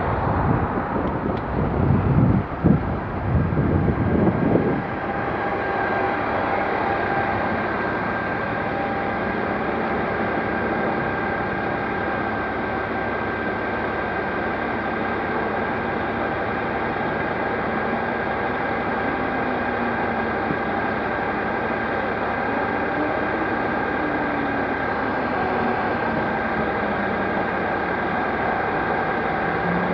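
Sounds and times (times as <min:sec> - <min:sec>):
thin steady whine: 0:00.0 - 0:29.9
vehicle road and engine noise: 0:00.0 - 0:29.9.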